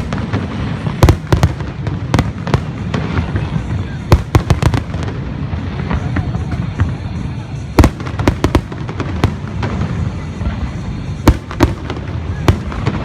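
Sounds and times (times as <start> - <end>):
fireworks bangs: 0.0 - 13.0
music playing: 0.0 - 13.0.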